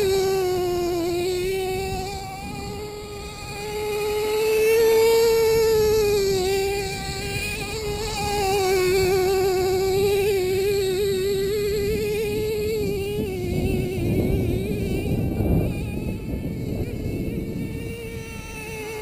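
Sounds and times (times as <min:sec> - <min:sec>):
small engine buzzing whine: 0:00.0 - 0:19.0.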